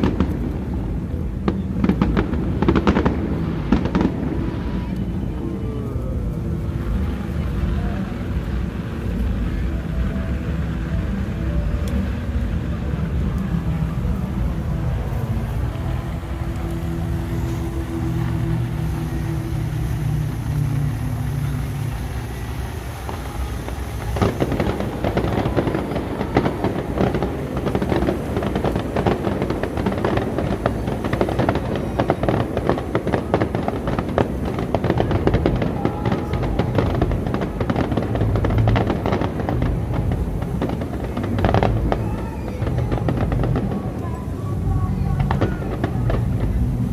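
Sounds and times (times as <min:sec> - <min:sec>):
fireworks crackling and booming: 0:00.0 - 0:46.9.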